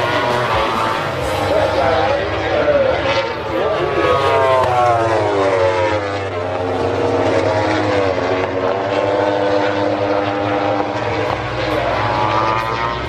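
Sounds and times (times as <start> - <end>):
racing motorcycles passing: 0.0 - 13.0
steady engine note: 0.0 - 13.0.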